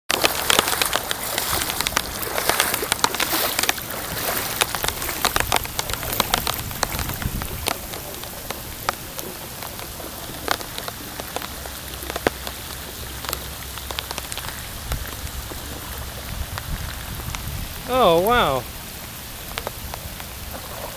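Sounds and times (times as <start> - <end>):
raindrops clicking on a surface: 0.1 - 20.9.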